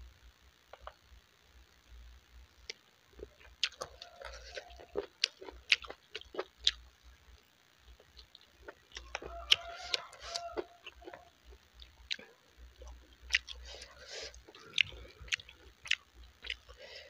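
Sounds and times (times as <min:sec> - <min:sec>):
person chewing food: 0:02.6 - 0:17.0.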